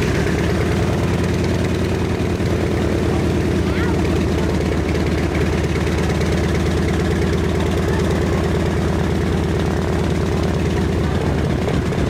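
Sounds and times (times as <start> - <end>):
radial engine idling: 0.0 - 12.0.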